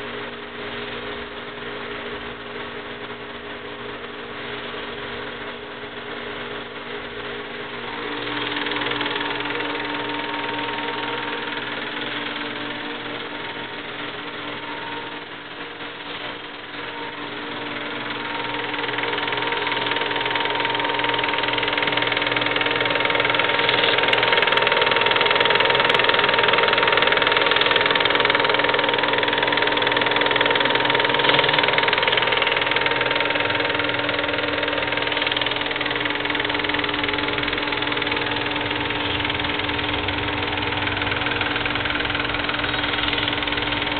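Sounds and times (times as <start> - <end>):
film projector whirring: 0.0 - 43.9.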